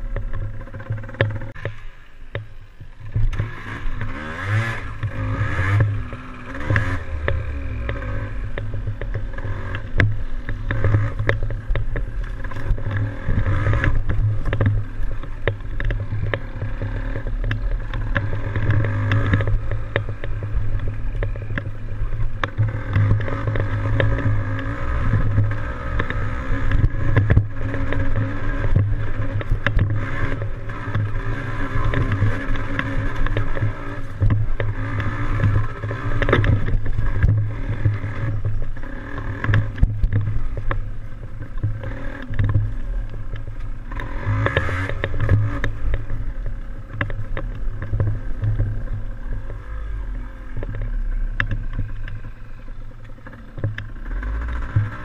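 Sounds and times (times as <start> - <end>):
two-stroke motorbike engine running: 0.0 - 55.0.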